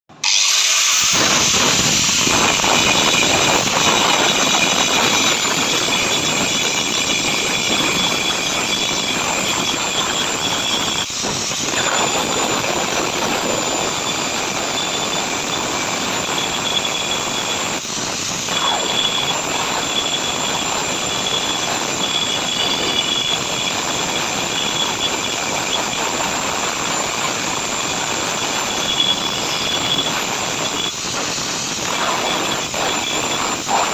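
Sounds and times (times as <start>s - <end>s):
gas torch hissing: 0.2s - 33.9s.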